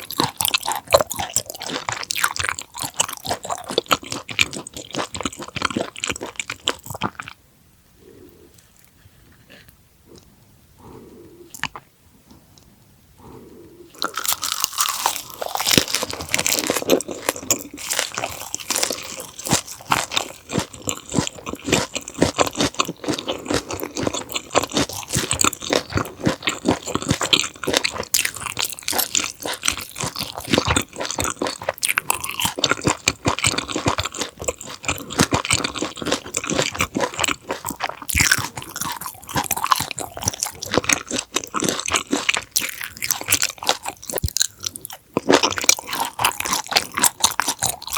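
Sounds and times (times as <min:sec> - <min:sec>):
crunchy chewing: 0:00.0 - 0:07.4, 0:08.0 - 0:47.9.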